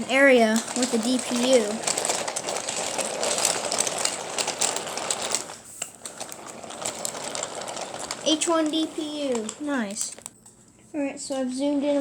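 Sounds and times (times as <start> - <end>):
wooden toy train rattling on track: 0.0 - 10.3.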